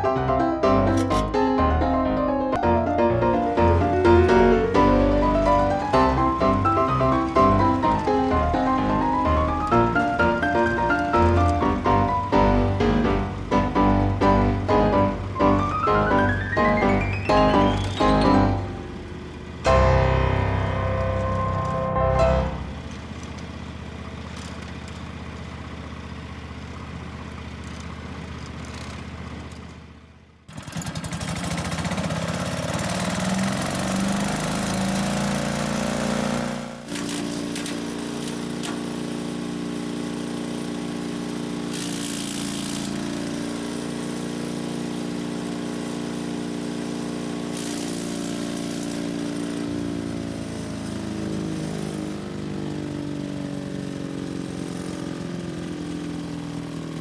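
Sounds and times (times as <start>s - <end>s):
small gasoline engines running: 0.0s - 1.4s, 2.6s - 57.0s.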